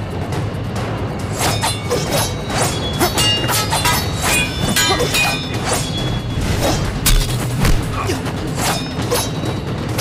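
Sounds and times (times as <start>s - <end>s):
dramatic background music: 0.0s - 10.0s
sword blade swishes and strikes: 1.3s - 10.0s.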